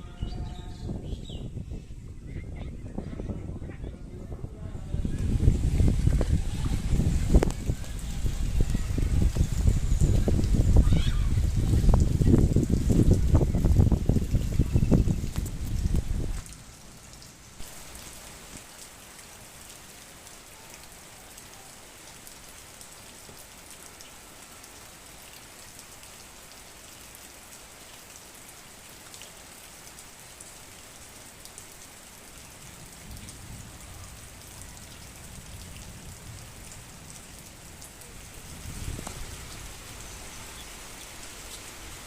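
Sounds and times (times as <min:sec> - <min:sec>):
steady rainfall: 0:00.0 - 0:42.0.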